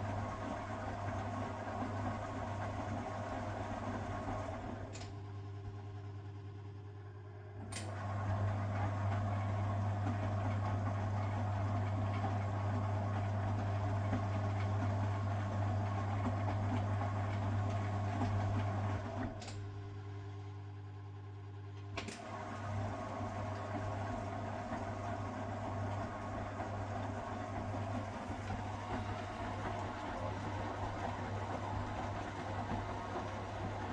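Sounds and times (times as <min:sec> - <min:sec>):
washing machine hum: 0:00.0 - 0:33.9.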